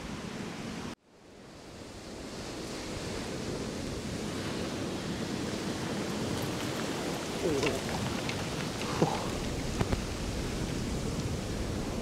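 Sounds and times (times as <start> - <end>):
surf breaking on a beach: 1.4 - 12.0
wind buffeting microphone: 1.8 - 12.0.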